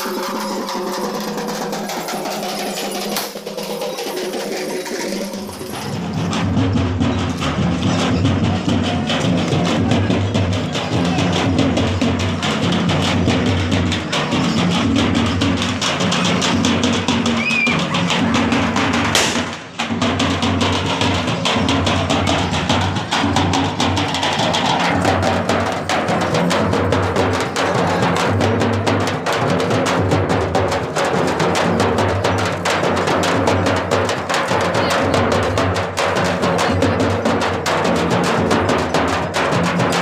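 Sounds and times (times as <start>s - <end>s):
fast drumming band: 0.0s - 40.0s.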